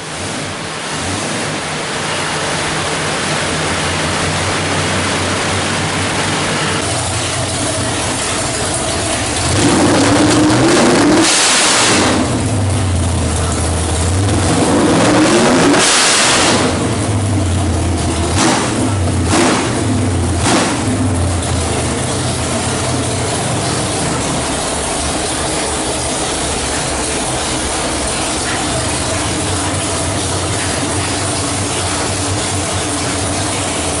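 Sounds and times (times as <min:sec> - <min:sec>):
engine idling and revving: 0:00.0 - 0:34.0.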